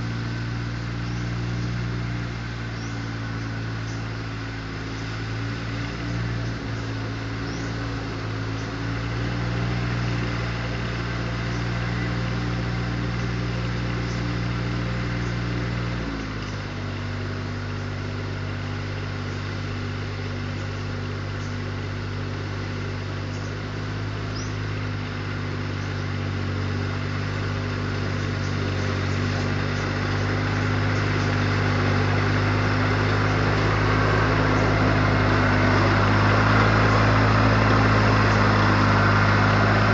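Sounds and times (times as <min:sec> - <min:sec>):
tractor mower engine running: 0:00.0 - 0:39.9.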